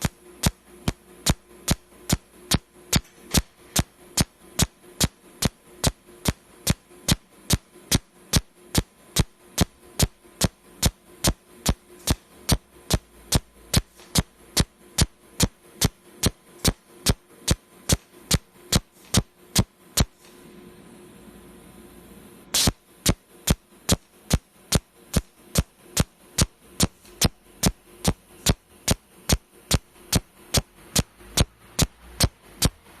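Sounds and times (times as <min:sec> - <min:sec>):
welding discharge snaps: 0:00.0 - 0:20.2, 0:22.6 - 0:32.8
electrical hum: 0:00.0 - 0:33.0.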